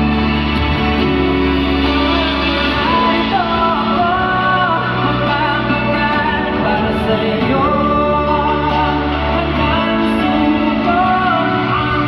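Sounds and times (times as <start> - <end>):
backing instruments and bass: 0.0 - 12.0
male singing pop song: 0.0 - 12.0.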